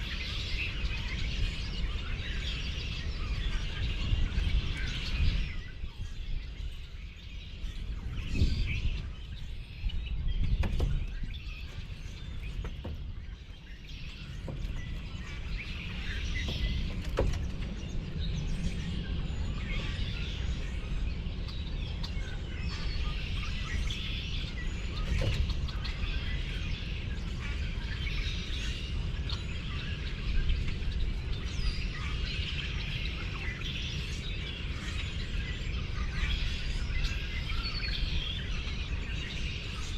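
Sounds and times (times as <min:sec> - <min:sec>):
low outdoor background rumble: 0:00.0 - 0:39.9
small birds chirping: 0:00.0 - 0:39.9.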